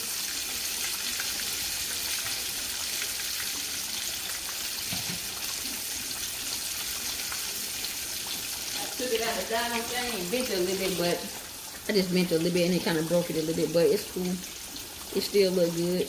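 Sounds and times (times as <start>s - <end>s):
fish frying in hot oil: 0.0s - 16.0s.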